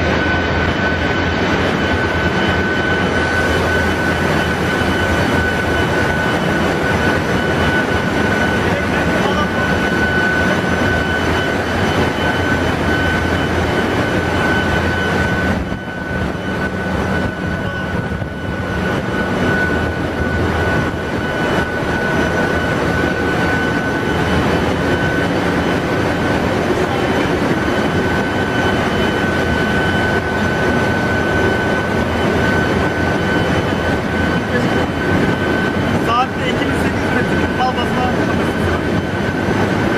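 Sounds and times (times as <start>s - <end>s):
engine room high-pitched whine: 0.0s - 39.9s
low machinery hum: 0.0s - 39.9s.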